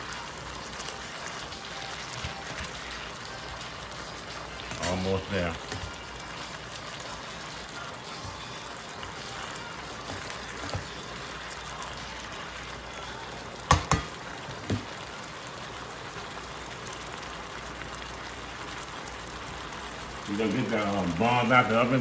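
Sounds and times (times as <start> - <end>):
sauce bubbling and sizzling: 0.0 - 22.0.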